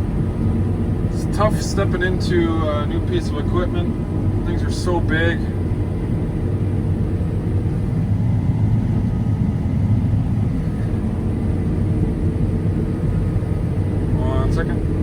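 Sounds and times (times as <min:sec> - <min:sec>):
combine harvester engine drone: 0:00.0 - 0:15.0
steady hum tones: 0:00.0 - 0:15.0.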